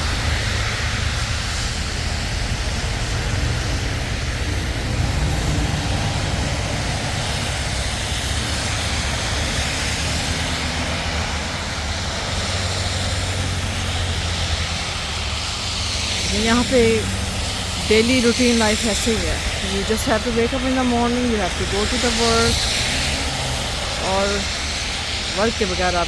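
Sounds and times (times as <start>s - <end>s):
traffic rumble with tyre hiss: 0.0s - 26.0s.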